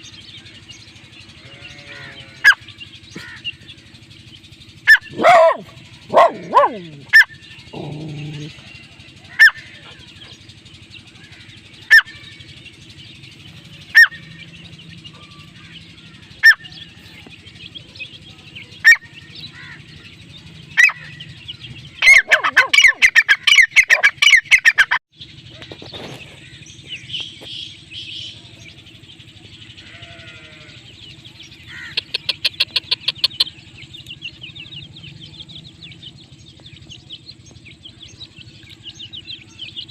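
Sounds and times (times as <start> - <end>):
francolin calling: 0.0 - 39.9.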